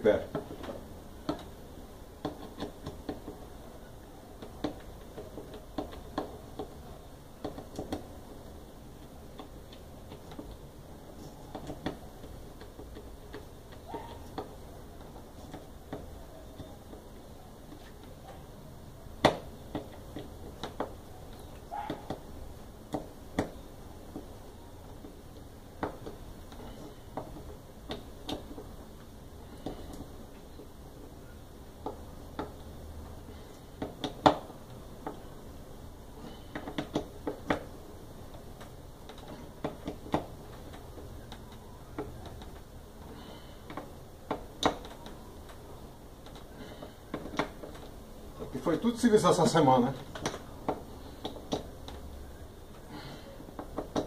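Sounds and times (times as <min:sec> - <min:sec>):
light clicks and knocks of mechanism: 0:00.2 - 0:54.0.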